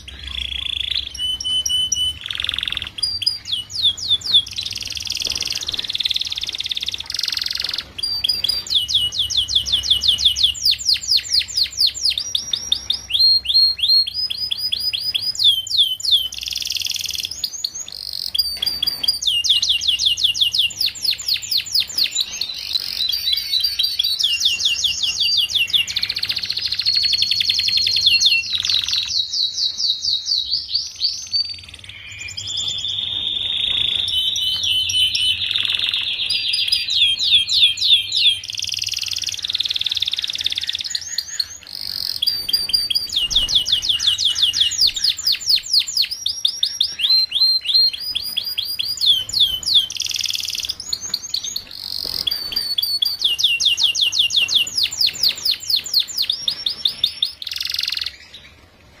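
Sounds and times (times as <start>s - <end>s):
canary singing fast trills: 0.0s - 58.8s.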